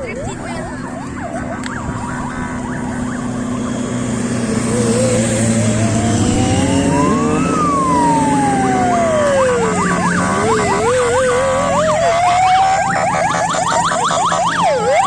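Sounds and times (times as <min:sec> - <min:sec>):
engine running: 0:00.0 - 0:15.0
siren wailing: 0:00.0 - 0:15.0.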